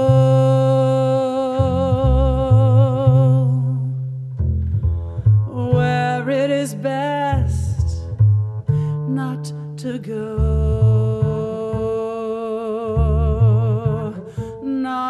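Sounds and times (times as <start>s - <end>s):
woman singing jazz: 0.0s - 3.9s, 5.5s - 8.1s, 8.9s - 15.0s
plucked double bass: 0.0s - 15.0s.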